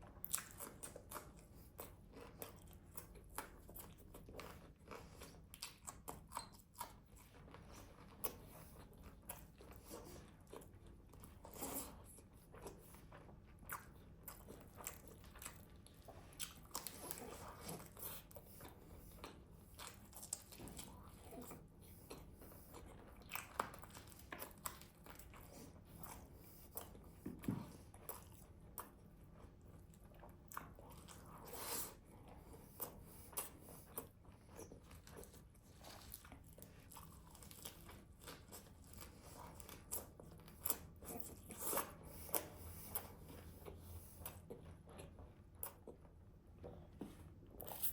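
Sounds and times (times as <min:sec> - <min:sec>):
chewing with crunches: 0:00.0 - 0:47.9.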